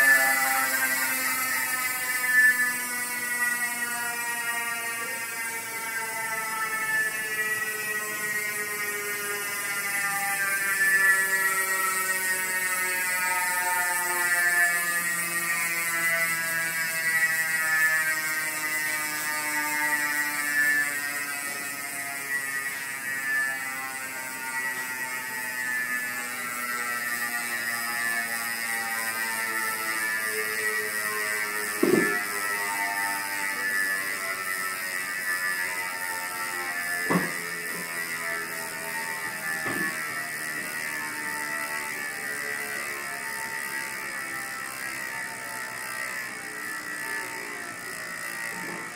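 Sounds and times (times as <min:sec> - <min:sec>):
bicycle hub freewheeling buzz: 0:00.0 - 0:48.9.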